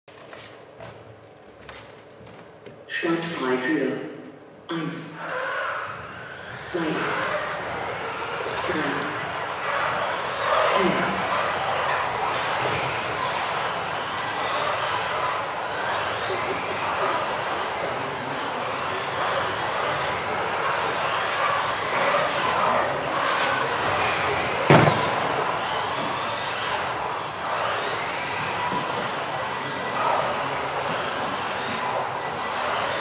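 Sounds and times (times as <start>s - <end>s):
electric rc car motors whining: 5.1s - 33.0s.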